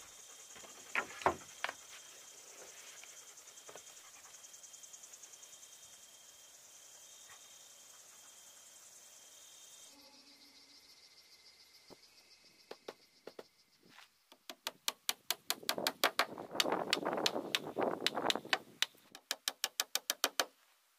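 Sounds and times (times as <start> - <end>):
crickets chirping: 0.0 - 20.5.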